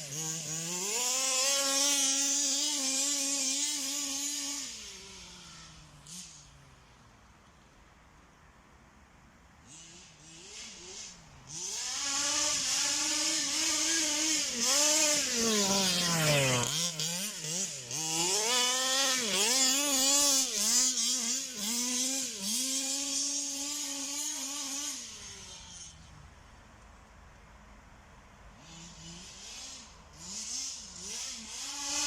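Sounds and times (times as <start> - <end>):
rc car engine revving: 0.0 - 7.1, 9.6 - 26.3, 28.5 - 32.0.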